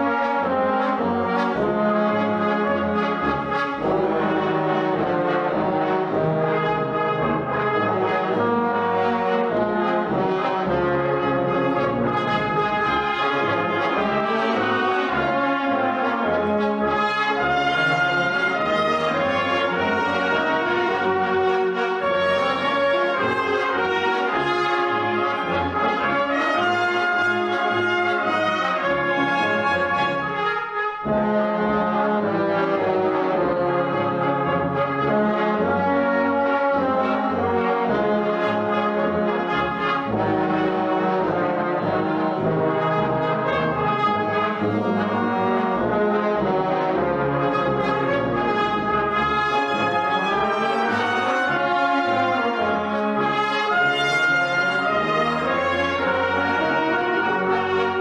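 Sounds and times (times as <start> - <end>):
brass band playing a march: 0.0 - 58.0.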